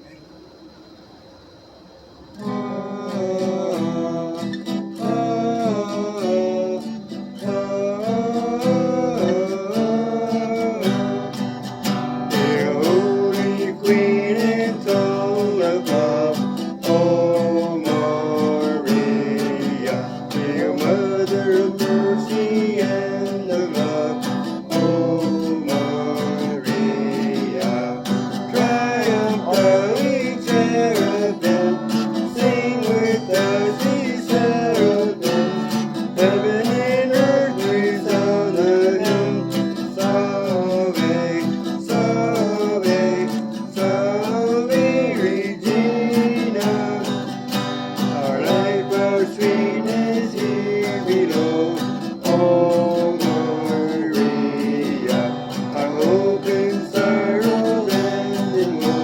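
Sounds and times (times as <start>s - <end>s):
acoustic guitar strumming: 0.0s - 59.0s
person singing a hymn: 2.4s - 59.0s.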